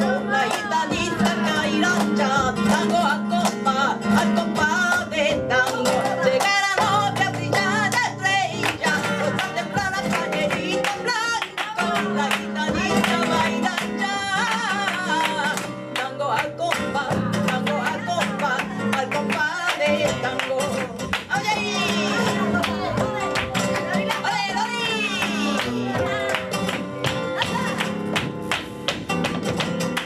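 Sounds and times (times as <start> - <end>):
flamenco guitar: 0.0 - 30.0
person singing flamenco: 0.0 - 30.0.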